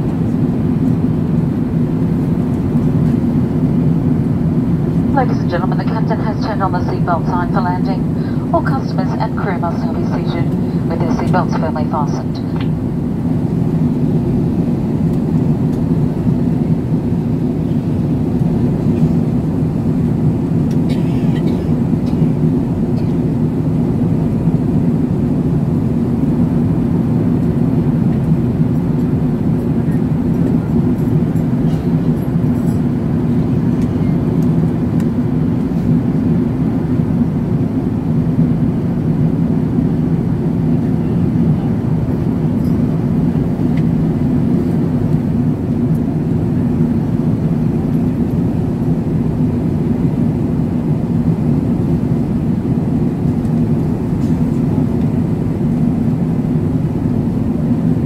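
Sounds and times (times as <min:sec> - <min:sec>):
airplane cabin roar: 0:00.0 - 0:58.0.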